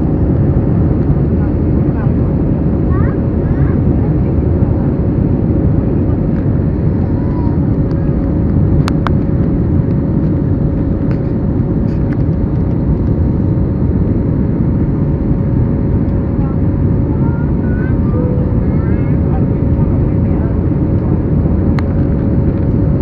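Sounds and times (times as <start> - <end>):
airliner cabin roar: 0.0 - 23.0
steady hum: 0.0 - 23.0.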